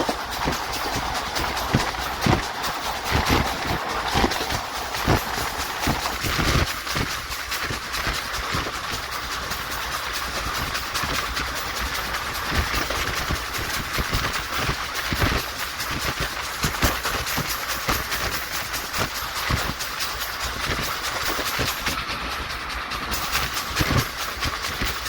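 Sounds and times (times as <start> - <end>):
train rushing along track: 0.0 - 25.0.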